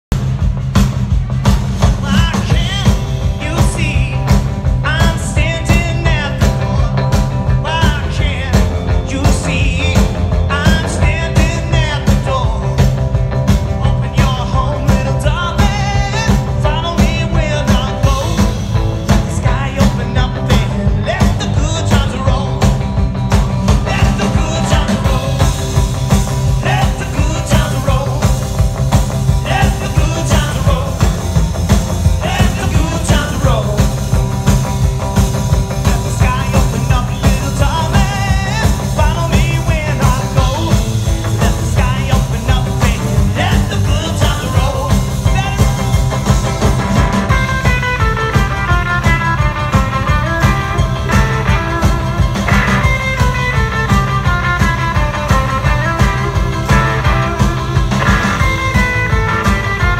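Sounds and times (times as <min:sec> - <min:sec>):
rock band playing: 0:00.0 - 0:59.9
man singing: 0:01.8 - 0:46.5, 0:47.2 - 0:59.9.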